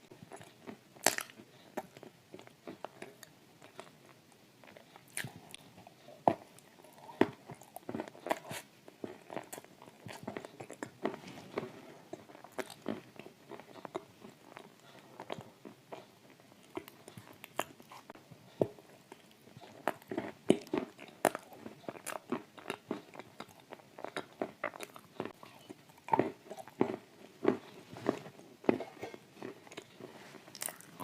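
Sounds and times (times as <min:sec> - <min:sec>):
crisp chewing crunches: 0:00.2 - 0:31.0.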